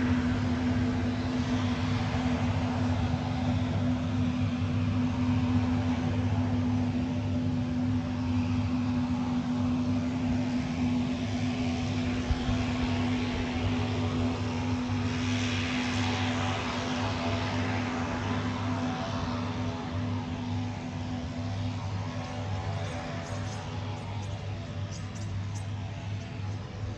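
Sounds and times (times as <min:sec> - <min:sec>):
turboprop engines humming: 0:00.0 - 0:26.9.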